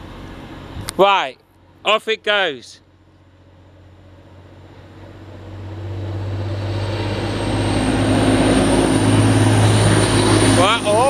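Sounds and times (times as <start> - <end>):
diesel train engine drone: 0.0 - 11.0
rail noise: 0.0 - 11.0.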